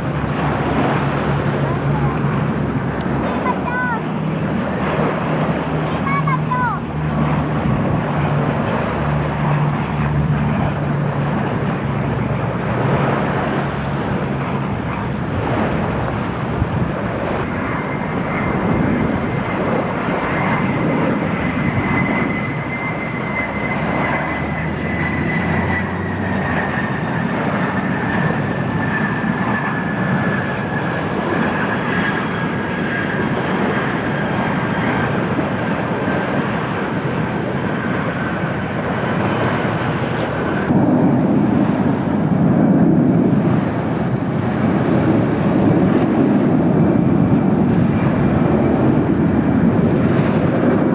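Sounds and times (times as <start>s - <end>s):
heavy low rumble: 0.0s - 50.9s
jet engine roar: 0.0s - 50.9s
jet engine whine: 0.0s - 50.9s.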